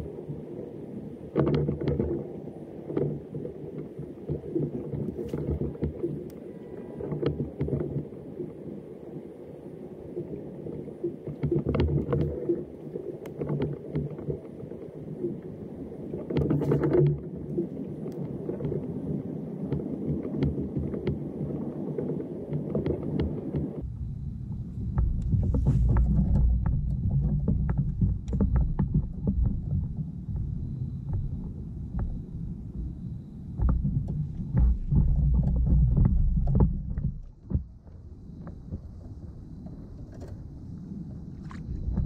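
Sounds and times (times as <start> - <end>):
water sloshing against kayak hull: 0.0 - 23.9, 24.8 - 42.0.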